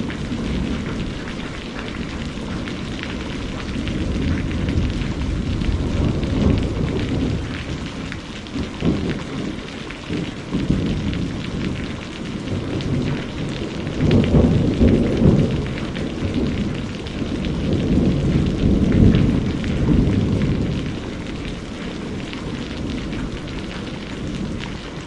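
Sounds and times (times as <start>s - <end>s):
rolling thunder: 0.0s - 25.0s
steady rain patter: 0.0s - 25.0s.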